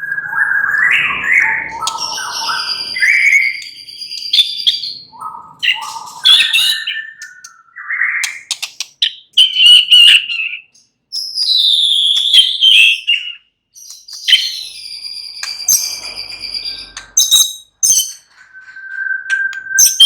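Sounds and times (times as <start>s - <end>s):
bird singing whistled phrases: 0.0s - 20.0s.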